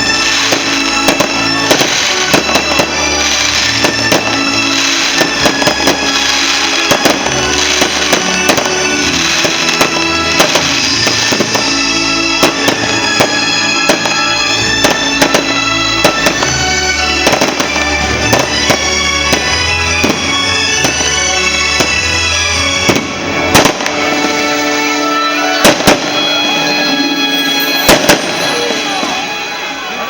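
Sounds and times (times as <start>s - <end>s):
fireworks cracking and banging: 0.0s - 30.0s.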